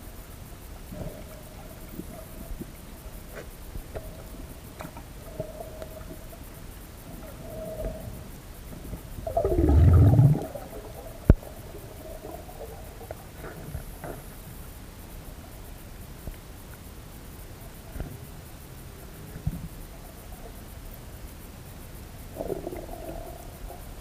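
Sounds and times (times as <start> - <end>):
faint underwater hum: 0.0 - 24.0.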